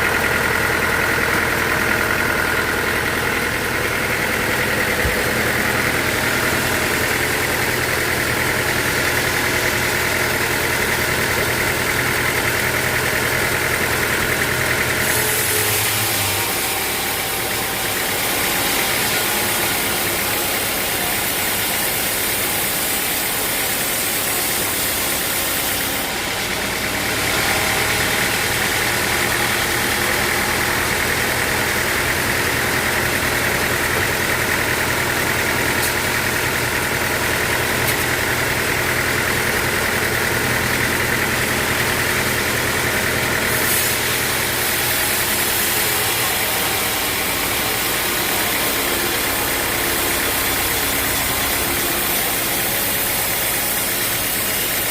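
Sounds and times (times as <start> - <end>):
sawmill machinery drone and whine: 0.0 - 54.9.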